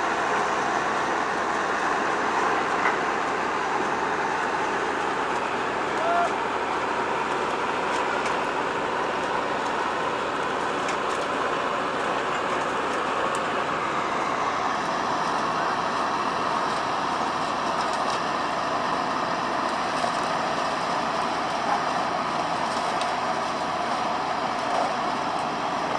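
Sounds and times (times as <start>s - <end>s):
harvest machinery running: 0.0s - 25.9s.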